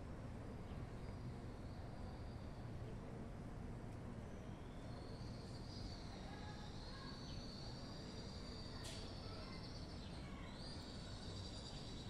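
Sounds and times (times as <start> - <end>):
faint outdoor ambient noise: 0.0 - 12.0.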